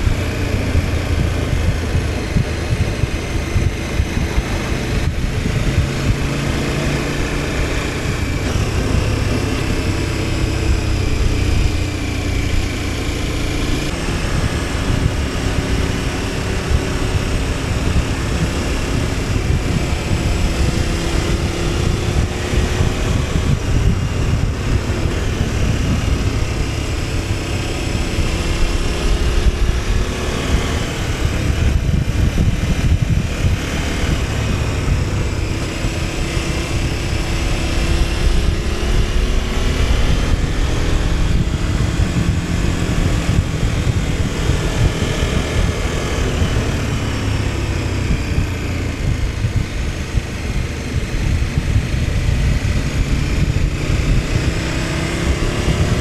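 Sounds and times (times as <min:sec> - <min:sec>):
motorcycle engine running: 0:00.0 - 0:56.0
wind rumble: 0:00.0 - 0:56.0.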